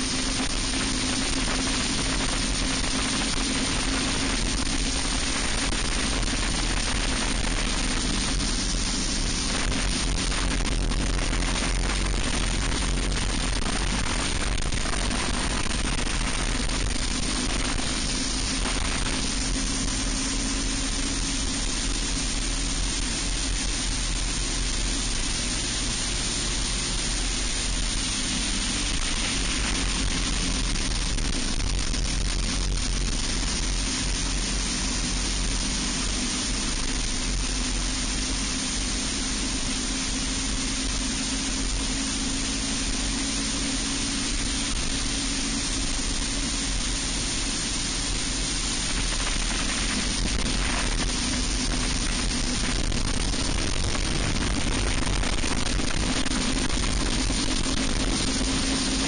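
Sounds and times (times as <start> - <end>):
kart engine running hard: 0.0 - 59.0
wind rush over microphone: 0.0 - 59.0.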